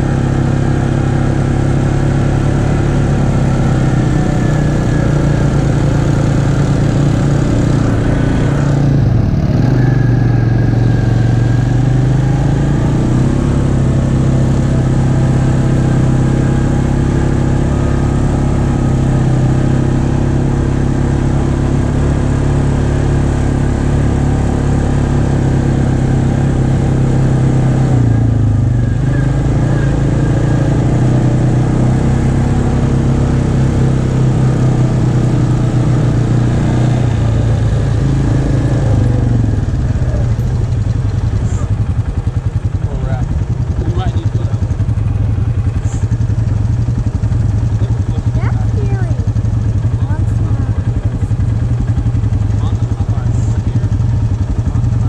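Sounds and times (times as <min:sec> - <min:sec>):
engine running steadily: 0:00.0 - 0:55.0
tyres rushing on dirt: 0:00.0 - 0:55.0.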